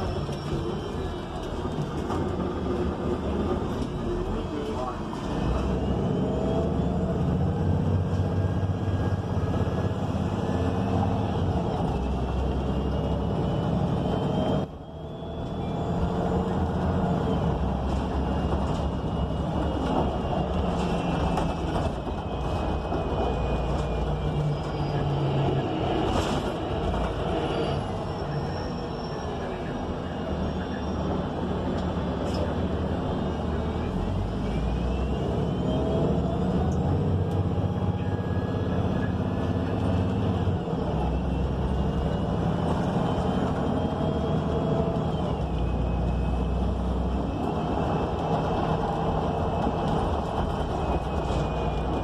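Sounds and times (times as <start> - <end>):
bus engine running: 0.0 - 52.0
road noise: 0.0 - 52.0.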